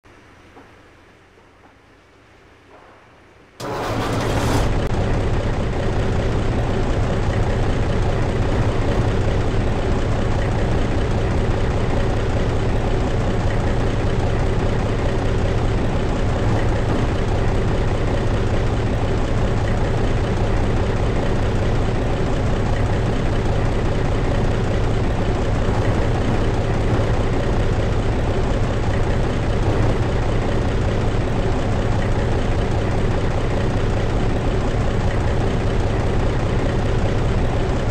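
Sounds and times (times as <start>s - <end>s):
diesel truck engine idling: 3.6s - 37.9s.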